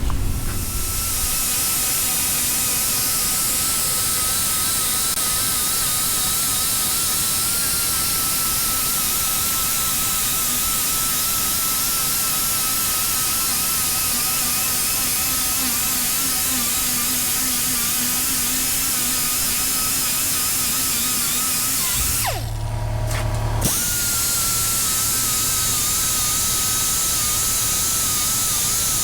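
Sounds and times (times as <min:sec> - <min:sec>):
angle grinder grinding metal: 0:00.0 - 0:29.0.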